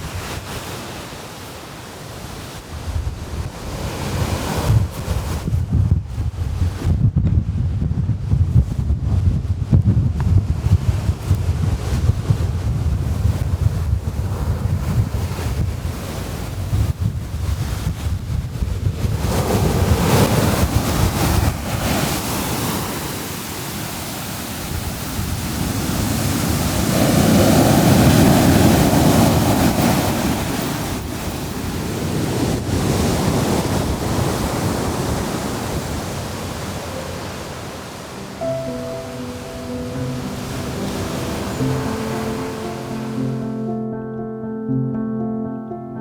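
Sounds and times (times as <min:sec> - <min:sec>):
surf breaking on beach: 0:00.0 - 0:07.6, 0:08.2 - 0:43.7
wind buffeting microphone: 0:02.1 - 0:43.7.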